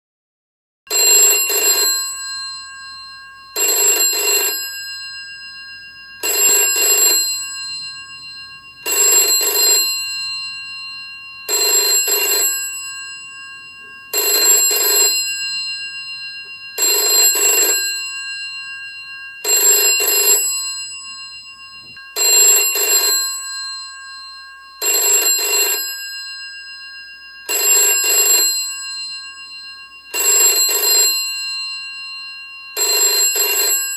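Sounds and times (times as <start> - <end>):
telephone bell ringing: 0.9 - 33.9.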